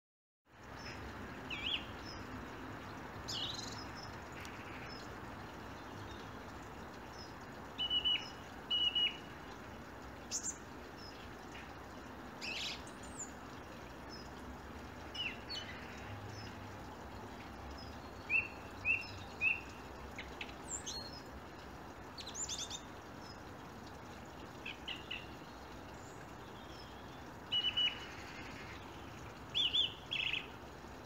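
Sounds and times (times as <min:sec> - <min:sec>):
songbirds singing: 0:00.6 - 0:31.0.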